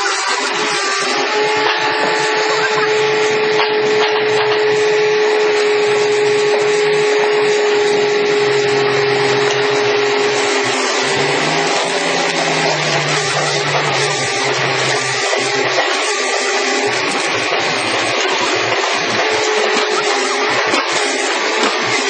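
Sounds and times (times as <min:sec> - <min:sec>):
excavator hydraulics humming: 0:00.0 - 0:22.0
high constant whine: 0:00.0 - 0:22.0.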